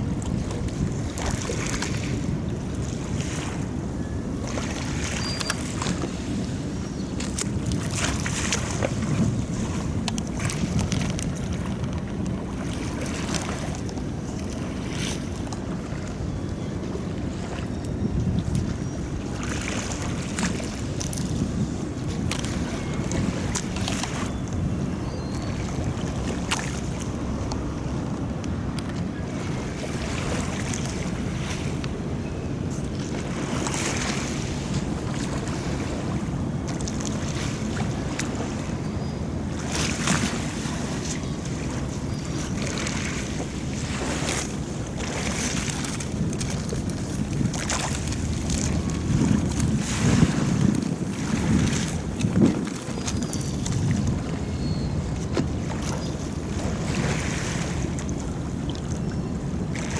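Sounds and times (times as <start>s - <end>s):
water lapping against quay: 0.0s - 59.9s
wind buffeting microphone: 0.0s - 59.9s.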